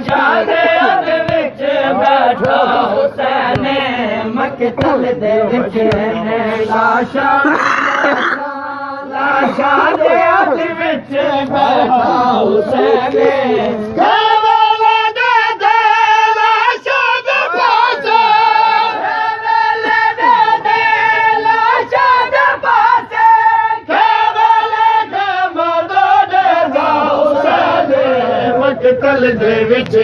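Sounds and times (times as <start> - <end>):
voices singing a lament: 0.0 - 30.0.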